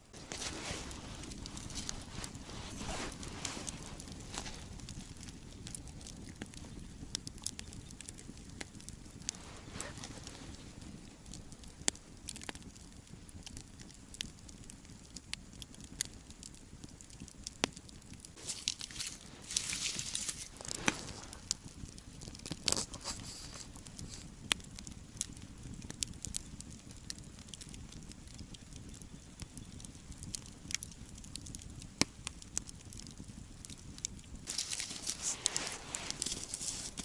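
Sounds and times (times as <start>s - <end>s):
campfire crackling and popping: 0.0s - 37.0s
fire low rumble: 0.0s - 37.0s.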